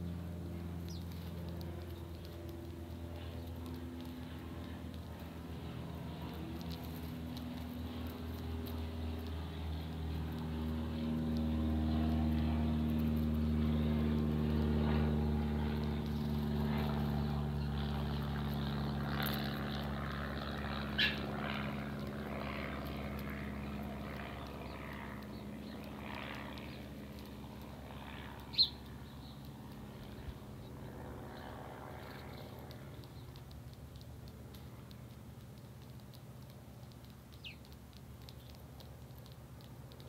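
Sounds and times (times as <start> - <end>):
distant engine drone: 0.0 - 40.0
sparrows chirping: 0.0 - 40.0.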